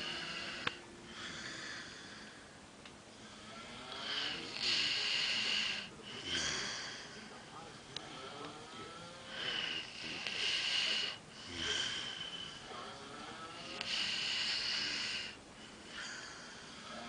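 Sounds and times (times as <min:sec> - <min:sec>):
man snoring with wheeze: 0:00.0 - 0:02.3, 0:03.2 - 0:07.3, 0:08.1 - 0:17.0.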